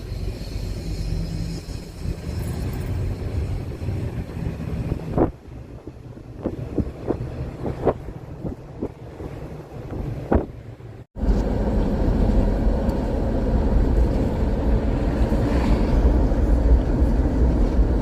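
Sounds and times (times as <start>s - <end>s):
wind buffeting microphone: 2.8s - 18.0s.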